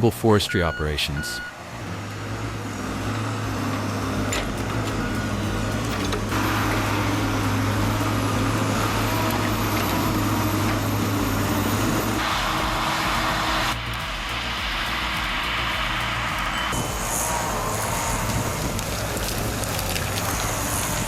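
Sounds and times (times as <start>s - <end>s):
heavy machine engine droning: 1.4s - 21.0s.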